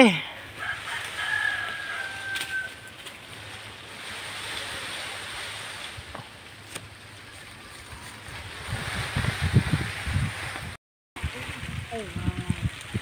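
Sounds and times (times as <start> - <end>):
foliage rustling: 0.0 - 13.0.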